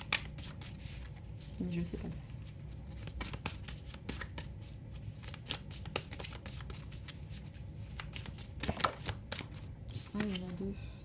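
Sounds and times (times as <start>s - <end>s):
cards being shuffled: 0.0s - 10.6s.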